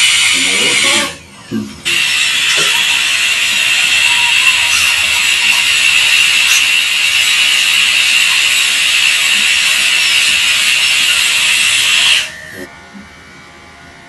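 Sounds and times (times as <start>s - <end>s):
dental drill whining: 0.0s - 12.7s.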